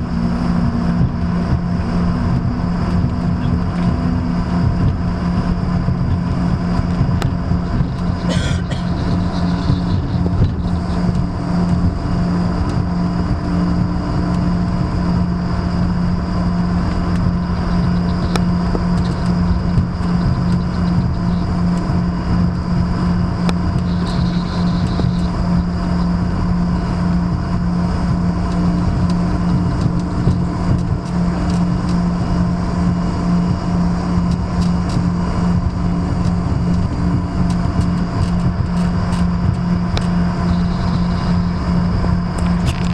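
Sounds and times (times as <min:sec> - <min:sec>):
airliner cabin noise: 0:00.0 - 0:42.9
constant low hum: 0:00.0 - 0:42.9.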